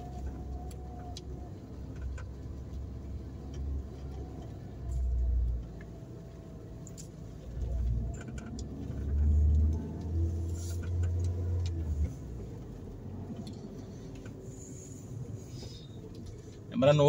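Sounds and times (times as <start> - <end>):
light clicks and rattles: 0.0 - 16.8
car engine and road rumble: 0.0 - 17.0.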